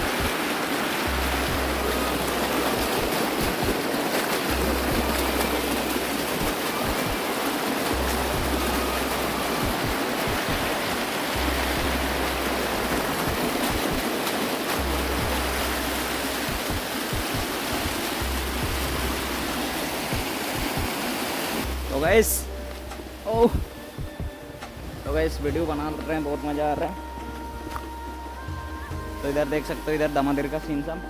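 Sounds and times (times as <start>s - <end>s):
waterfall rushing water: 0.0s - 31.0s.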